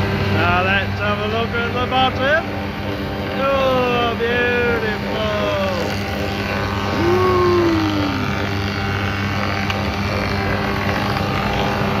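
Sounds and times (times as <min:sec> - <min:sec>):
machine motors humming: 0:00.0 - 0:12.0.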